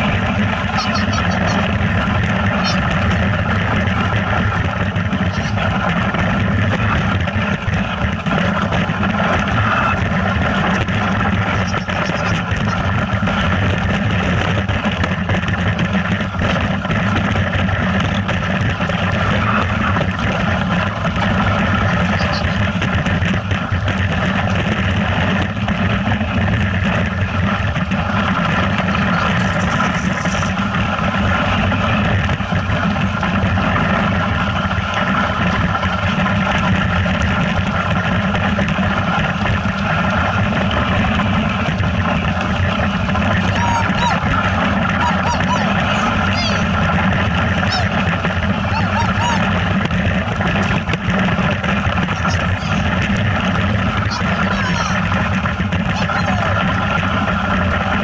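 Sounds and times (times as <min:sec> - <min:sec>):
engine running: 0:00.0 - 0:58.0
rushing noise: 0:00.0 - 0:58.0.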